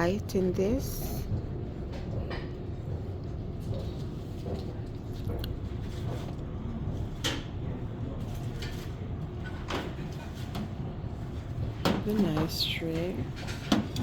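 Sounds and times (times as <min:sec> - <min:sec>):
low store background hum: 0:00.0 - 0:14.0.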